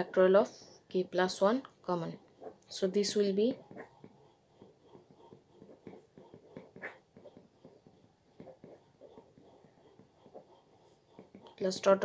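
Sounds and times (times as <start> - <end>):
marker scratching on paper: 2.2 - 12.0.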